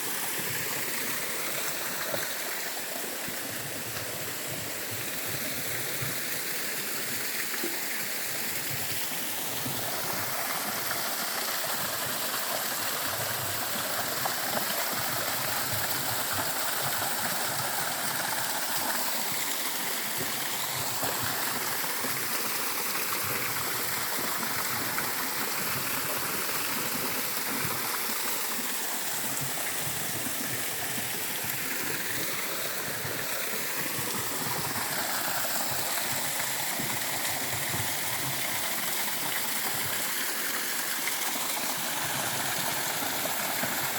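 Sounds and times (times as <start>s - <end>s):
water rushing over rocks: 0.0s - 43.9s.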